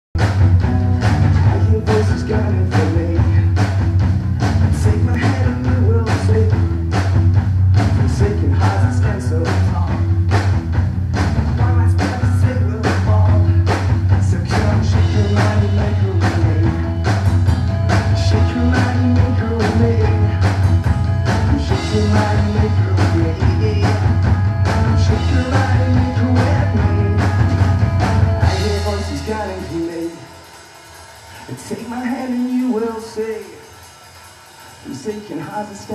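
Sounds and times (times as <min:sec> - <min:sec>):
loud bass line: 0:00.2 - 0:33.6
electric guitar: 0:00.2 - 0:35.9
steady drum beat: 0:00.2 - 0:35.9.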